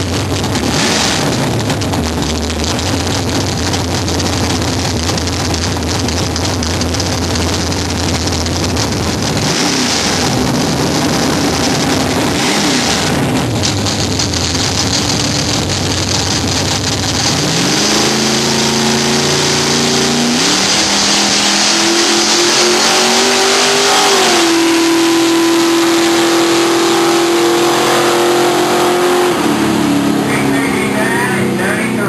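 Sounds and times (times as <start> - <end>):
drag car engine accelerating: 0.0 - 32.0.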